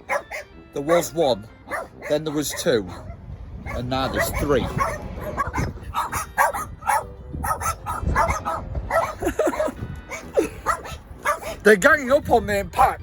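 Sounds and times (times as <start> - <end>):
dogs barking: 0.0 - 11.7.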